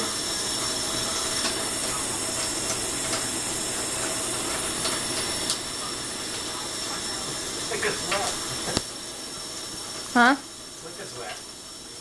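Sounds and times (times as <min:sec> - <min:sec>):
running water hissing: 0:00.0 - 0:12.0.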